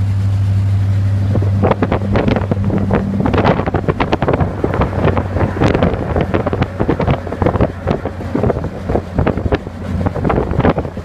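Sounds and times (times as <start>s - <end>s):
engine and road noise hum: 0.0s - 11.0s
wind buffeting microphone: 1.1s - 11.0s.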